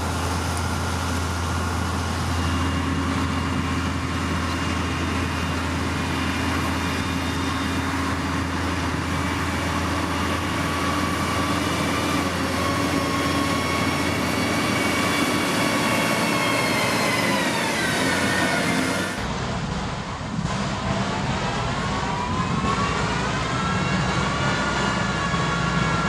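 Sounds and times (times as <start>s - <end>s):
heavy machine engine running: 0.0s - 26.0s.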